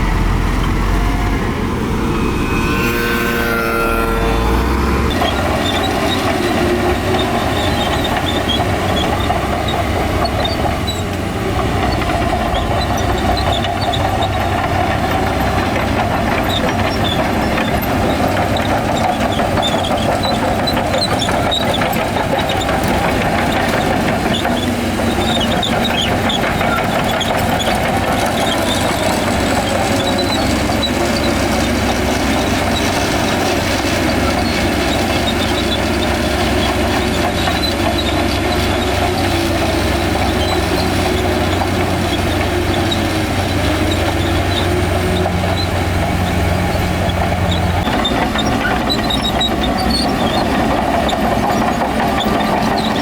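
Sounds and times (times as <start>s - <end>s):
diesel engine running: 0.0s - 53.0s
steel tracks clanking and squealing: 0.0s - 53.0s.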